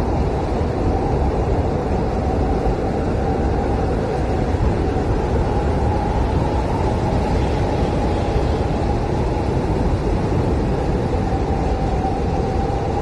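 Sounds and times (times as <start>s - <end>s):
blizzard wind howling: 0.0s - 13.0s.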